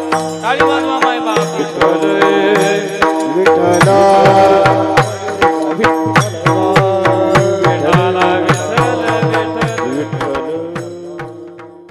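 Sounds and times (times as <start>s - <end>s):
hand drum rhythm: 0.0s - 11.9s.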